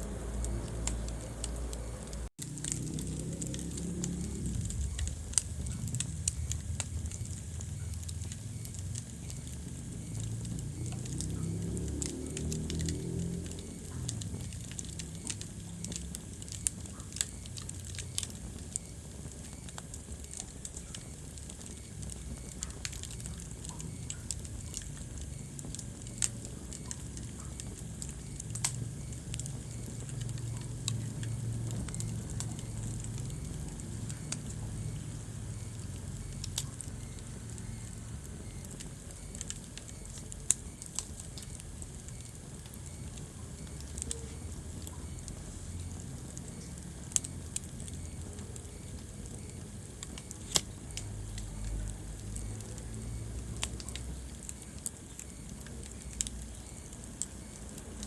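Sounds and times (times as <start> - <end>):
burning wood crackling: 0.0 - 58.0
fire rumbling: 0.0 - 58.0.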